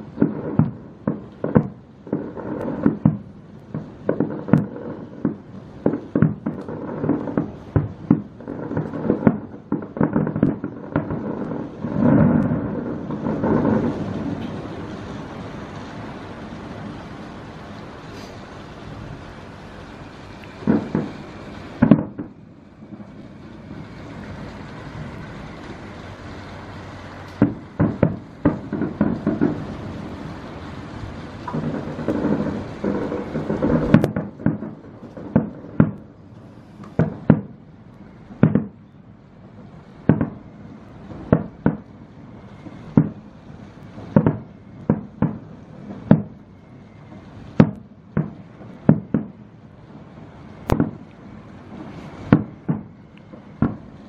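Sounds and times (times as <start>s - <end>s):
distant fireworks bursting: 0.0s - 54.0s.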